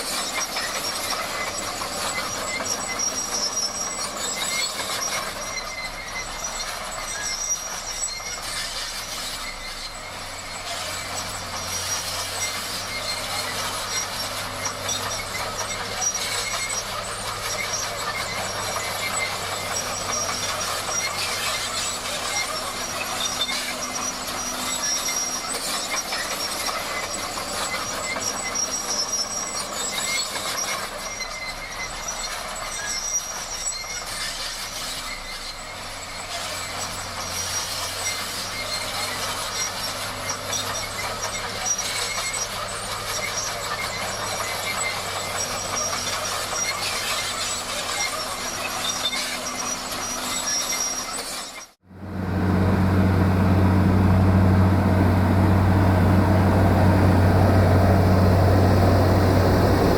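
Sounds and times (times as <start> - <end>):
crawler tracks clattering: 0.0 - 59.9
diesel engine running: 0.0 - 59.9.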